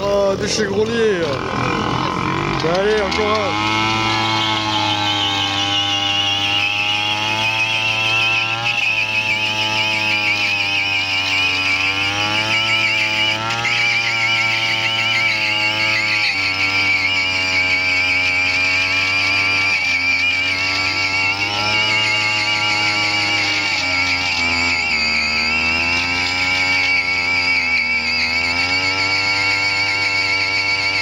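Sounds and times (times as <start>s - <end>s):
moped engine revving: 0.0s - 31.0s
tyre squeal: 1.2s - 31.0s.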